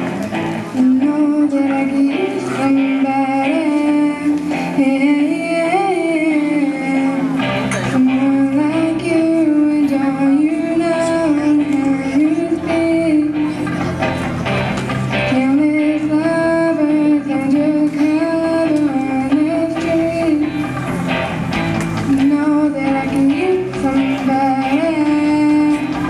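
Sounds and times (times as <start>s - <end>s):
girl singing into microphone: 0.0s - 14.2s, 15.1s - 20.9s, 21.9s - 26.0s
instrumental accompaniment: 0.0s - 26.0s.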